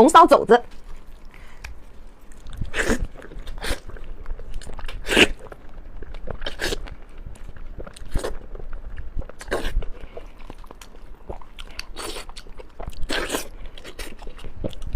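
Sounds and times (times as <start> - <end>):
person biting and chewing: 0.7 - 14.9.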